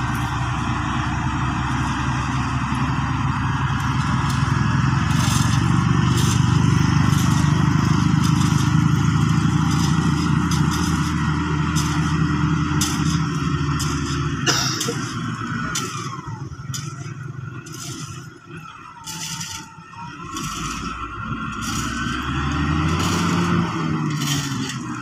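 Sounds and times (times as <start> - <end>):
diesel engine running: 0.0 - 25.0
gravel scraping and clattering: 0.0 - 25.0.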